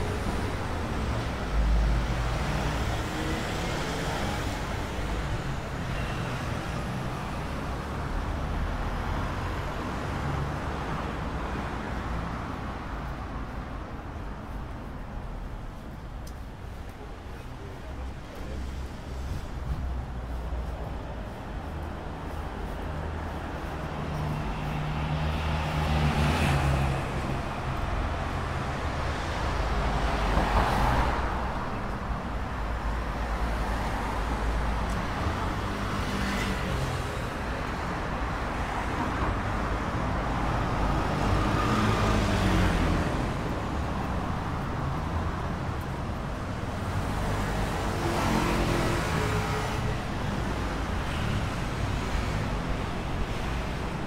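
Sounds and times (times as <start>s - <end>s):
vehicles passing on road: 0.0s - 54.0s.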